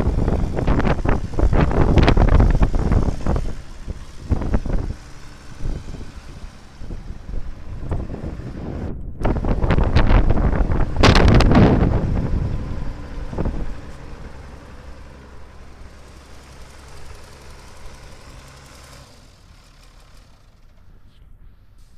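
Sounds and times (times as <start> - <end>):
tractor diesel engine revving: 0.0 - 21.9.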